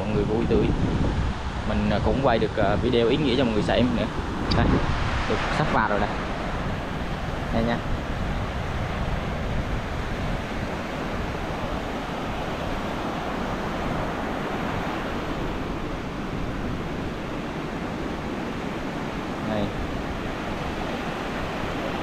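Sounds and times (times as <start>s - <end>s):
sea surf rushing: 0.0s - 22.0s
wind on microphone: 0.0s - 22.0s.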